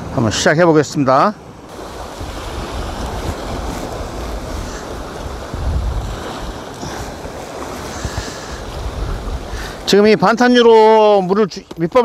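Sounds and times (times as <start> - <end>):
surf breaking on rocks: 1.5 - 12.0
wind buffeting microphone: 1.5 - 12.0.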